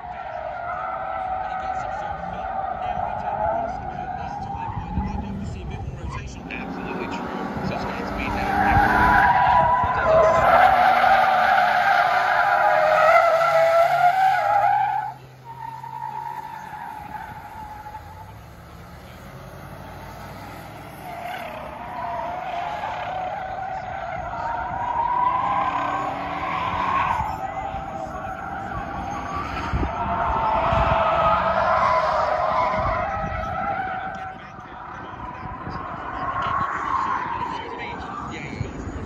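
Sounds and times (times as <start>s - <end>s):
car tyres squealing on asphalt: 0.0s - 39.0s
engine revving: 1.2s - 11.1s, 12.1s - 39.0s.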